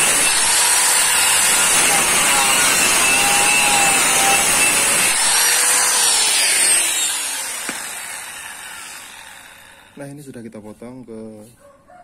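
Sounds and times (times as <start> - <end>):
angle grinder cutting steel: 0.0 - 10.3.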